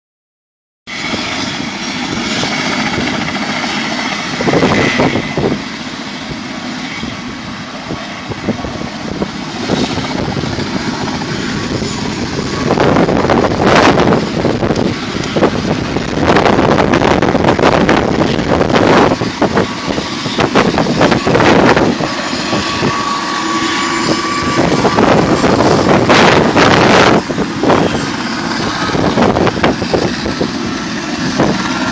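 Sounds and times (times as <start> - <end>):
helicopter taking off: 0.9 - 31.9
wind buffeting microphone: 0.9 - 31.9.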